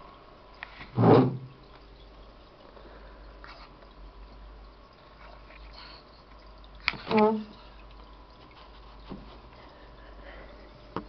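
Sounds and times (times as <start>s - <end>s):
aquarium filter gurgling and dripping: 0.0s - 11.0s
low steady hum: 0.0s - 11.0s.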